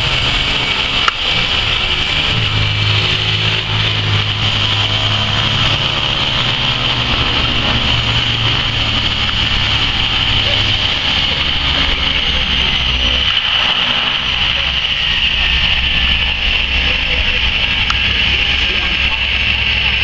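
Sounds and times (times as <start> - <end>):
propeller drone: 0.0 - 20.0
turbine whine: 0.0 - 20.0.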